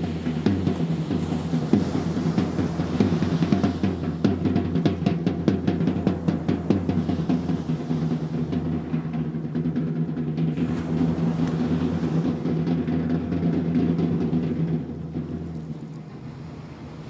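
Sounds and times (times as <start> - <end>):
drum rolls: 0.0 - 16.0
low ringing drum tone: 0.0 - 16.3.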